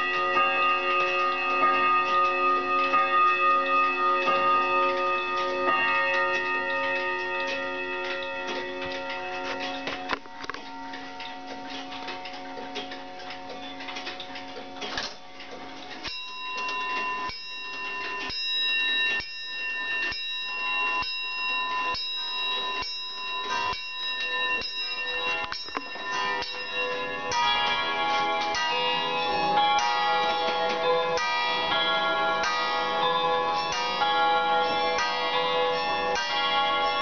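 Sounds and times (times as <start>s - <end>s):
clock chimes ringing: 0.0s - 37.0s
clock striking on a bell: 0.0s - 37.0s
clock ticking: 0.0s - 37.0s.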